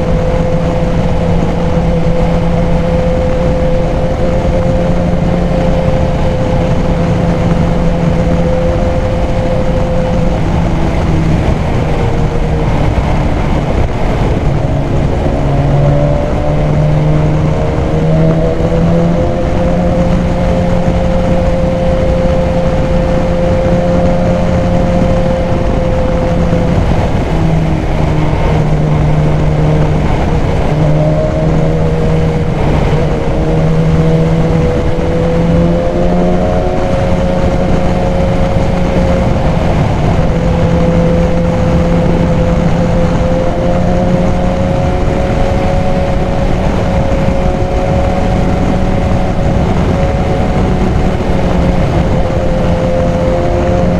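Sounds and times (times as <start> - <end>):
motorcycle engine running: 0.0 - 53.9
wind rushing: 0.0 - 53.9.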